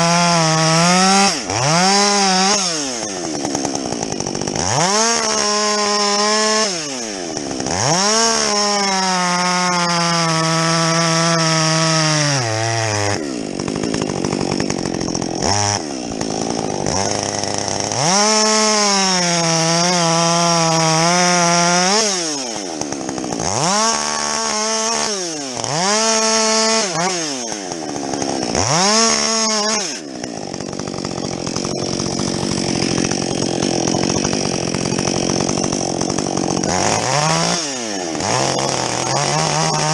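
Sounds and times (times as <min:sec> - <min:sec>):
chainsaw cutting logs: 0:00.0 - 0:39.9
chainsaw idling: 0:00.0 - 0:39.9
chainsaw throttle blips: 0:00.0 - 0:39.9.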